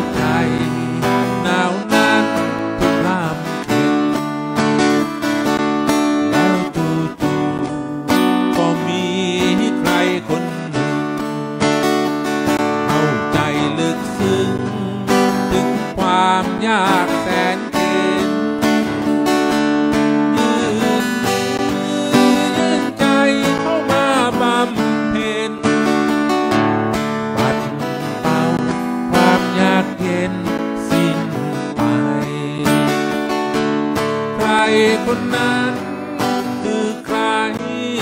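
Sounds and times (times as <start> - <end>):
acoustic guitar strummed: 0.0 - 38.0.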